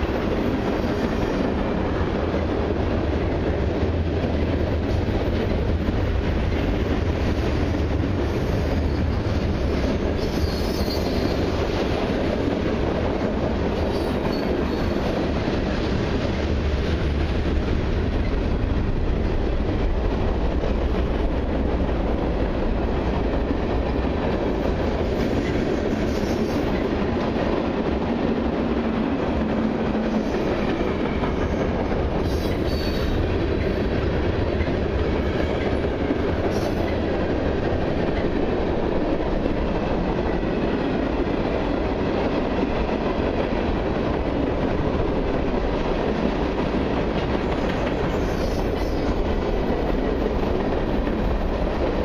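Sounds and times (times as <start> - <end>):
freight train wheels rumbling on rails: 0.0 - 52.0.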